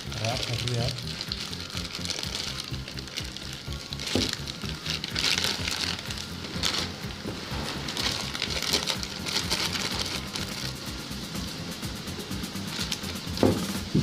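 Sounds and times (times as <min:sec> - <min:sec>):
plastic packaging crinkling: 0:00.0 - 0:10.9, 0:12.7 - 0:14.0
background music with beat: 0:00.0 - 0:14.0.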